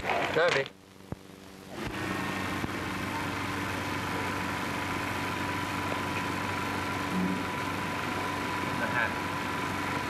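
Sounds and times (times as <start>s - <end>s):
mechanical hum with hiss: 0.0s - 10.0s.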